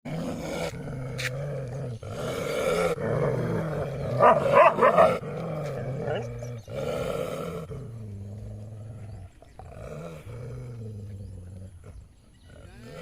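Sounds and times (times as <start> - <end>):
dogs growling and snarling: 0.0 - 13.0.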